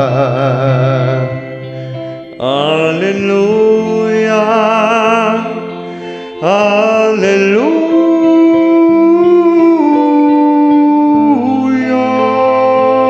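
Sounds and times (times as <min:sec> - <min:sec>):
karaoke backing track: 0:00.0 - 0:13.0
man singing with vibrato: 0:00.0 - 0:13.0.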